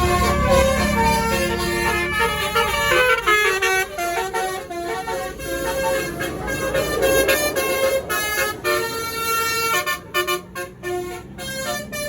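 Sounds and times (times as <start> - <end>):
bus engine rumbling: 0.0 - 12.0
musical bus horn playing tune: 0.0 - 12.0.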